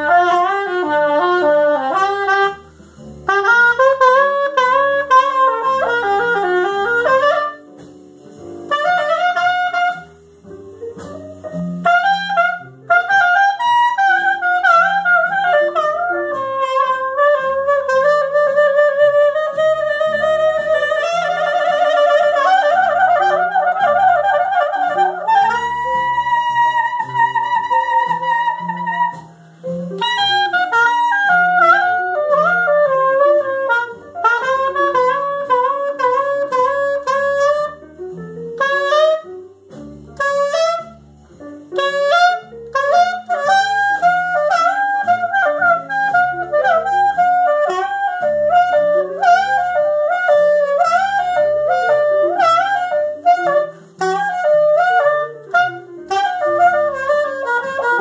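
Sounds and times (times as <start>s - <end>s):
backing track with bass line: 0.0s - 58.0s
saxophone melody: 0.0s - 58.0s.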